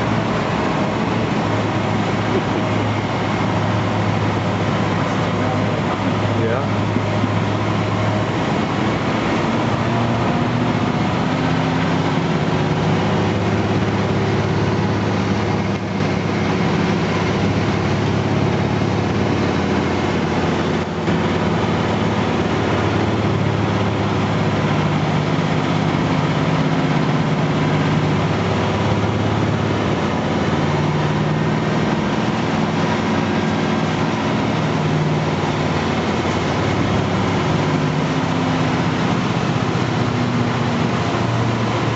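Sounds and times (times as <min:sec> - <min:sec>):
diesel truck engine running: 0:00.0 - 0:41.9
road noise: 0:00.0 - 0:41.9.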